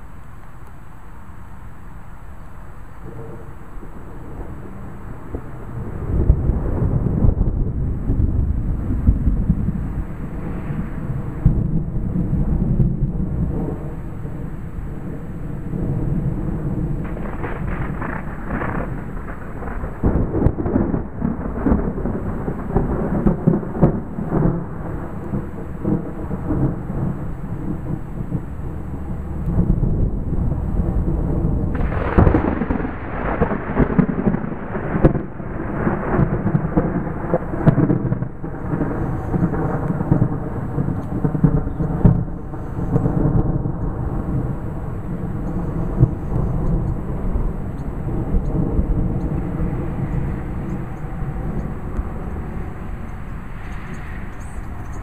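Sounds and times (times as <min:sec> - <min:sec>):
rolling thunder rumble: 0:01.6 - 0:55.0.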